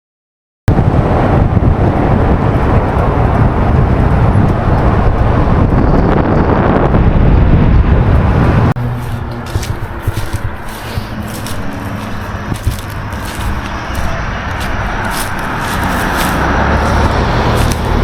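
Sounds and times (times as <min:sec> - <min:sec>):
wind buffeting microphone: 0:00.7 - 0:18.0.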